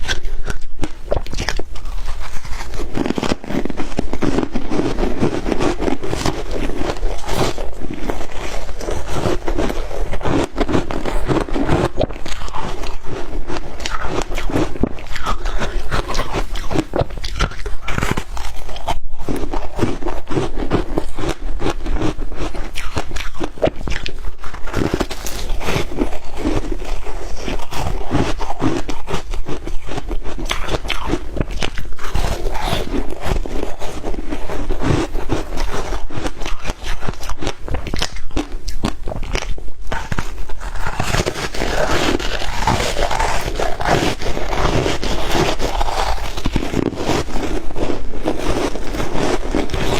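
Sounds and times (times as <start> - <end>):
person chewing crunchy ice: 0.0 - 49.9.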